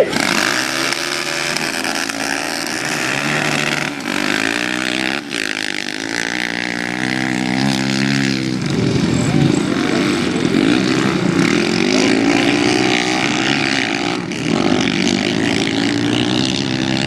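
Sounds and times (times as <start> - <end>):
racing quad engines at full throttle: 0.0 - 17.0.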